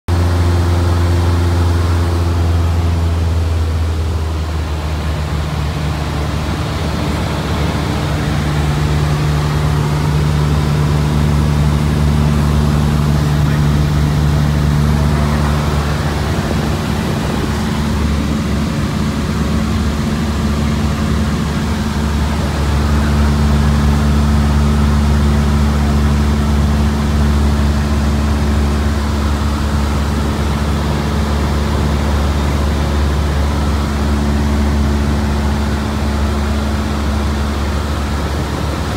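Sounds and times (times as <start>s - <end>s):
propeller airplane engine drone: 0.1s - 38.9s.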